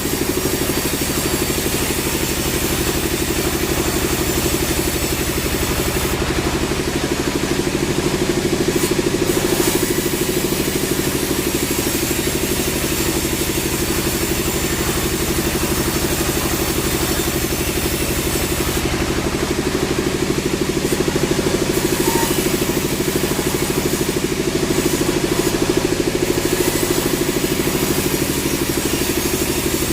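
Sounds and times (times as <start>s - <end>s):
sawmill engine pulsing: 0.0s - 29.9s.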